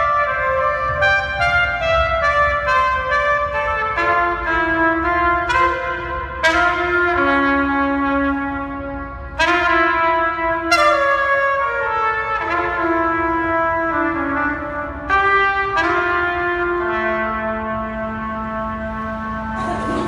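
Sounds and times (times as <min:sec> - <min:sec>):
sustained brass chords: 0:00.0 - 0:20.0.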